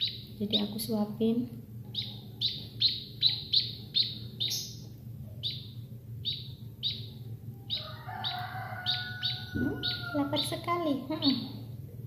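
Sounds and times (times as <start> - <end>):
fledgling bird begging chirps: 0.0 - 0.9, 1.9 - 11.6.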